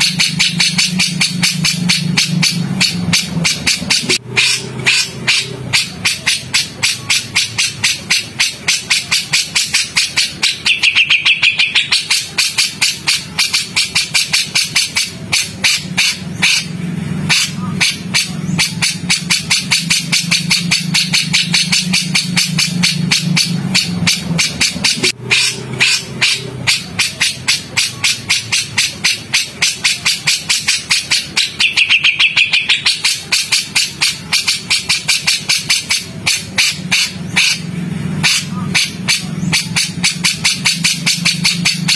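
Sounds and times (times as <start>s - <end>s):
harsh clipped bird calls: 0.0s - 41.9s.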